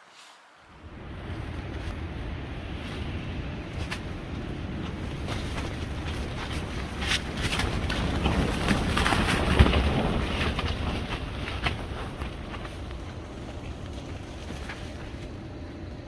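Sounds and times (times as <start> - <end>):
strong wind buffeting microphone: 0.7 - 16.0
rustling: 1.2 - 16.0.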